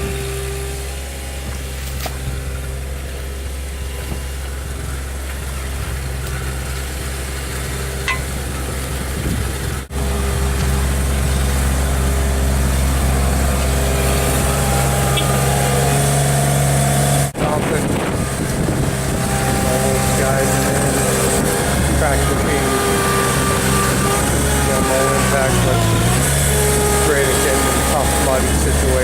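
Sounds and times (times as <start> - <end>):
construction machine engine running: 0.0 - 29.0.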